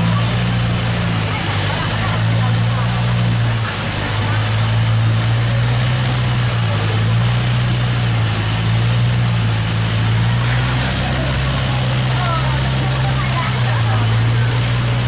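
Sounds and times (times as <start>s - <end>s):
boat engine droning: 0.0s - 15.0s
water rushing along hull: 0.0s - 15.0s.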